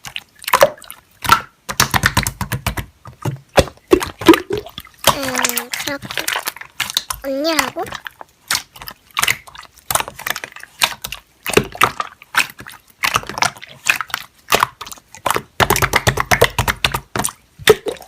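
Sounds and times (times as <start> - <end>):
slime squished by hand: 0.0 - 18.0.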